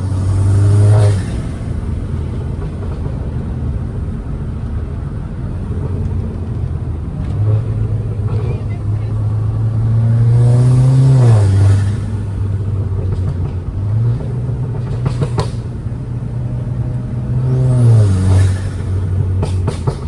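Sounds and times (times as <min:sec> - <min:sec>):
turbocharged car engine accelerating: 0:00.0 - 0:20.0.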